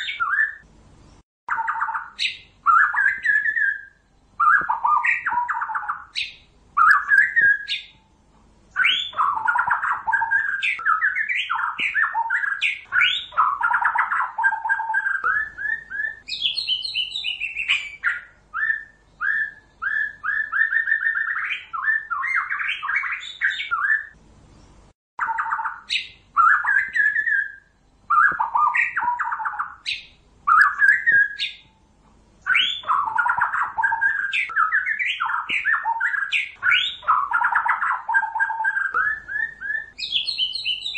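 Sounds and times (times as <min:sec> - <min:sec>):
bird singing whistled phrases: 0:00.0 - 0:00.7, 0:01.5 - 0:08.1, 0:08.7 - 0:24.2, 0:25.2 - 0:31.8, 0:32.4 - 0:40.9.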